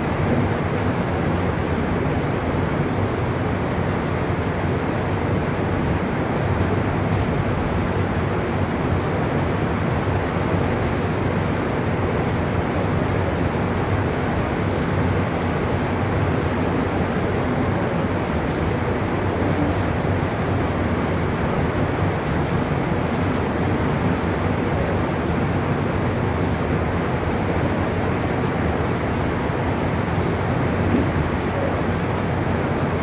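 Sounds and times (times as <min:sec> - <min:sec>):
rushing floodwater: 0:00.0 - 0:33.0.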